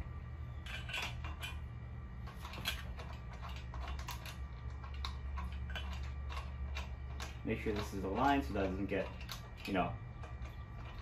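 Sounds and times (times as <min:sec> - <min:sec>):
allen wrench clicking and scraping: 0:00.5 - 0:11.0.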